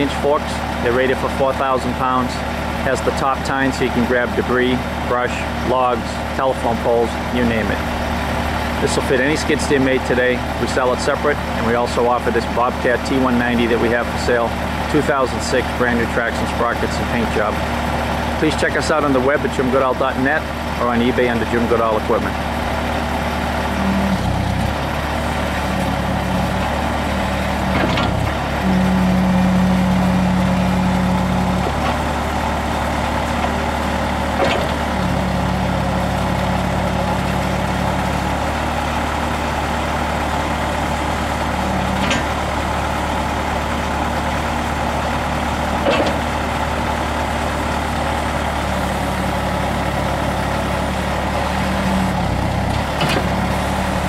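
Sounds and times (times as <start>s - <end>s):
diesel engine running: 0.0s - 54.0s
strong engine hum: 0.0s - 54.0s.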